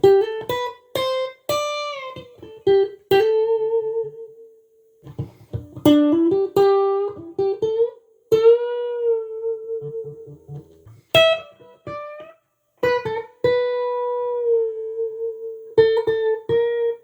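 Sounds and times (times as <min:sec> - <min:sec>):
electric guitar lead: 0:00.0 - 0:04.4, 0:05.0 - 0:17.0.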